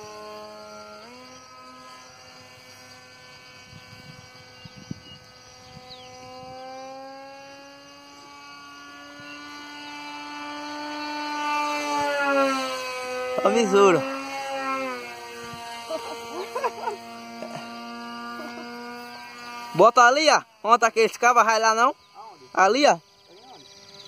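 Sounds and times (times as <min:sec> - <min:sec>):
model aircraft motor humming: 0:00.0 - 0:24.0.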